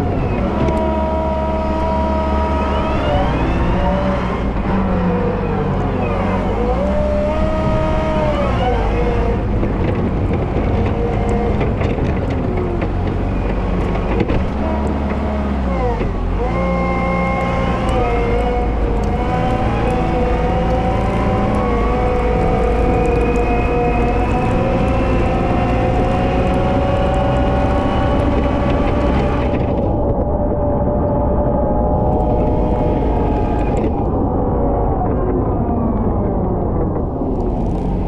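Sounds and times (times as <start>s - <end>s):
wheel loader diesel engine: 0.0s - 38.0s.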